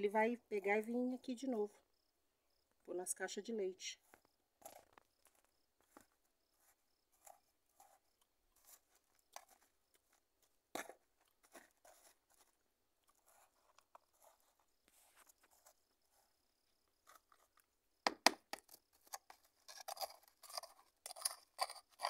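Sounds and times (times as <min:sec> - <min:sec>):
scissors scraping soil in plastic tub: 0:00.0 - 0:01.8, 0:03.9 - 0:16.3, 0:16.9 - 0:17.7, 0:18.4 - 0:22.0.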